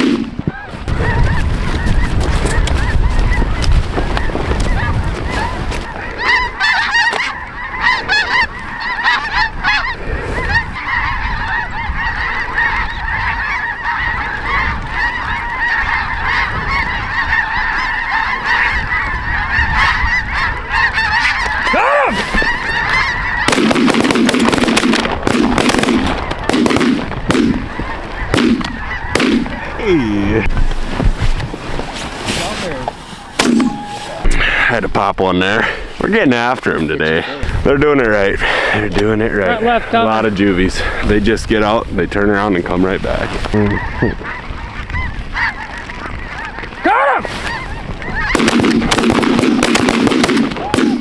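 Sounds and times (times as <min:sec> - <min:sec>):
geese honking: 0:00.0 - 0:51.0.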